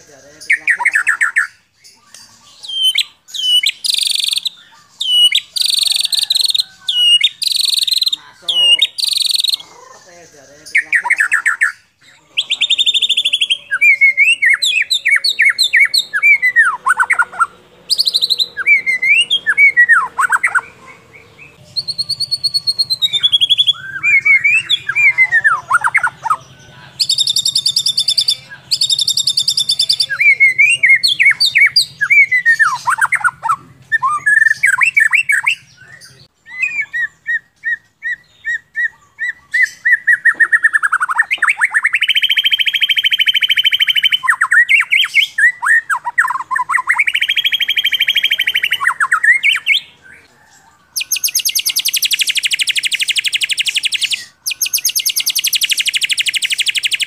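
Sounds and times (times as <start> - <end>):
bird harsh chattering: 0.0 - 57.0
bird whistled notes: 2.6 - 9.6, 12.4 - 26.4, 27.0 - 49.9, 51.0 - 57.0.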